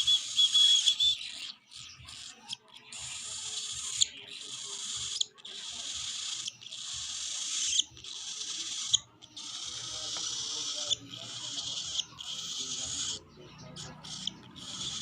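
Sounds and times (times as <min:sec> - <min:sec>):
bird chick raspy begging calls: 0:00.0 - 0:15.0.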